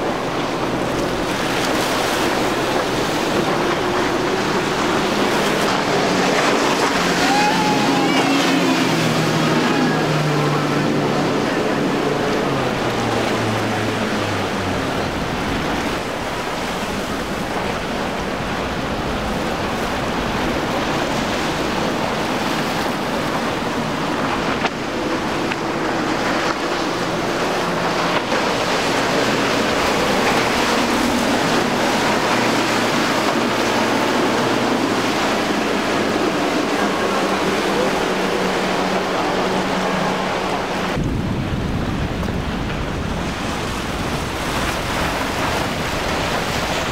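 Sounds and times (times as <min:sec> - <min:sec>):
outboard engines droning: 0:00.0 - 0:46.9
rush of spray and surf: 0:00.0 - 0:46.9
wind buffeting microphone: 0:00.0 - 0:46.9.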